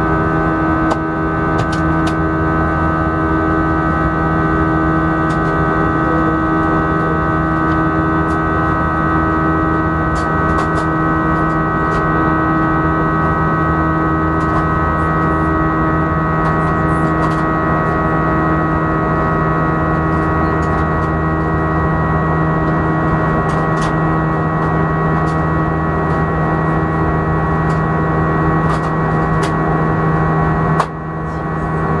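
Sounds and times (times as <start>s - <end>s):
jet engine drone: 0.0s - 32.0s.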